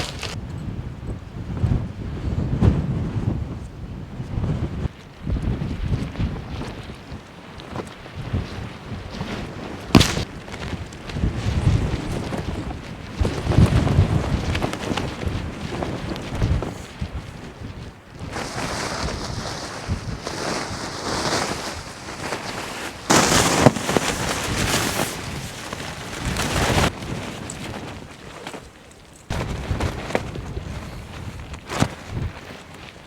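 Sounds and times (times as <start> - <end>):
storm wind buffeting microphone: 0.0 - 28.5, 29.3 - 33.0.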